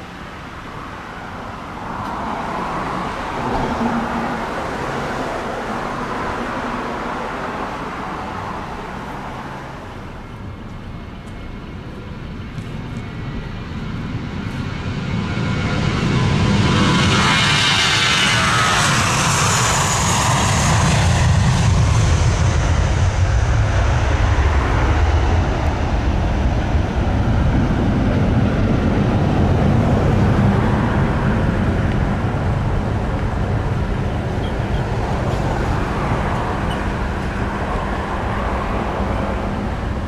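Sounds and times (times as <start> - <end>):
jet airliner taking off: 0.0 - 40.0.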